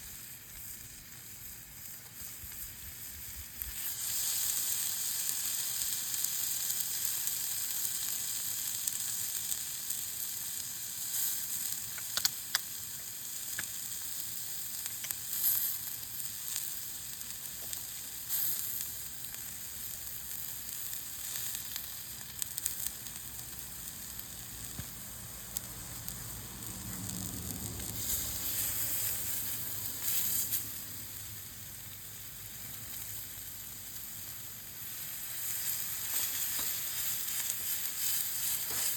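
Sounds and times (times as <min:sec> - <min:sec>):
meat sizzling over campfire: 0:00.0 - 0:38.9.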